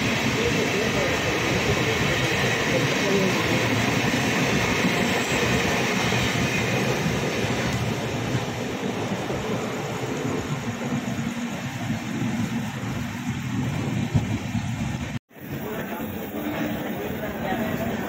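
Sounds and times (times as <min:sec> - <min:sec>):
train rumbling and rattling on track: 0:00.0 - 0:18.0.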